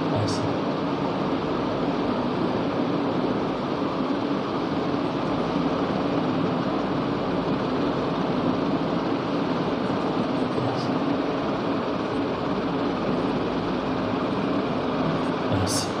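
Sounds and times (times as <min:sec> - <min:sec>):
low fan hum: 0:00.0 - 0:16.0.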